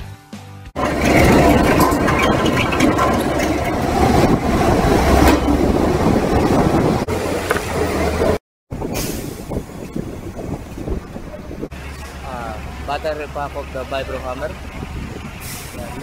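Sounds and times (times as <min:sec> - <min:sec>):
piling rig engine running: 0:00.8 - 0:08.8, 0:09.4 - 0:16.0.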